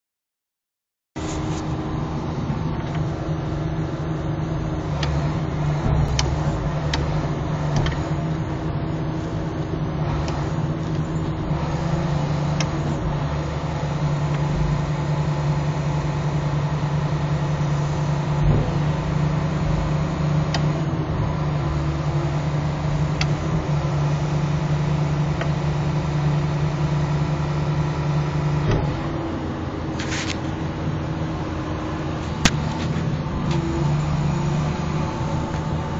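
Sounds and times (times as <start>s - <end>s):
diesel engine running: 1.2s - 35.9s.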